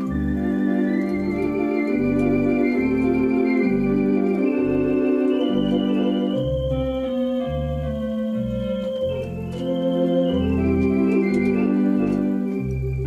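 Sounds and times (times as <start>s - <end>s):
electronic organ playing chords: 0.0s - 13.0s.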